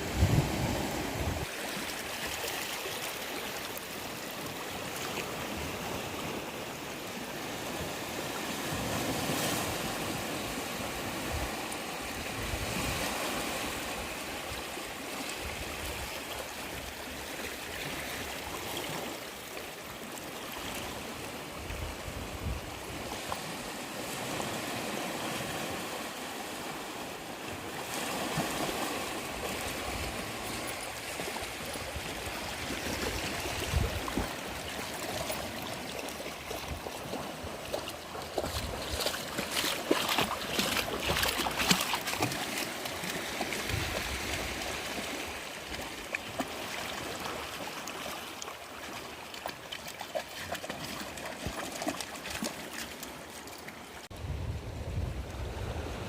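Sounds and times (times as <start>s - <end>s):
small waves breaking: 0.0s - 56.0s.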